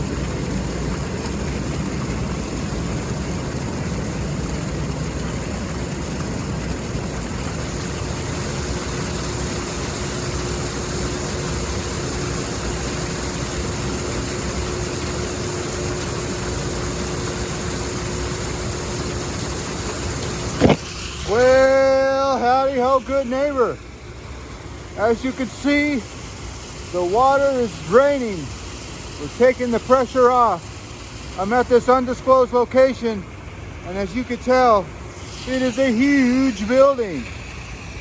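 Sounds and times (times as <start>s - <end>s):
water rushing from a drain: 0.0s - 38.0s.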